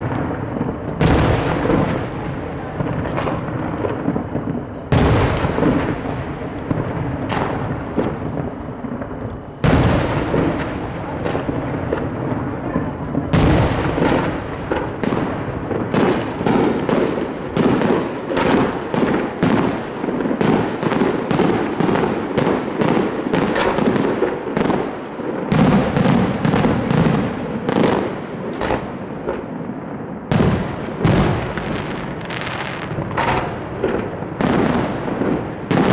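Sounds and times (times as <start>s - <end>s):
firework booms with echo: 0.0s - 35.9s
firework cracks volley: 0.0s - 35.9s.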